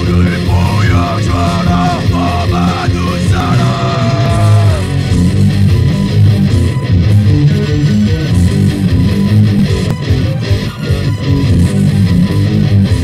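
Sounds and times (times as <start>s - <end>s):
bass guitar line: 0.0s - 13.0s
electric guitar: 0.0s - 13.0s.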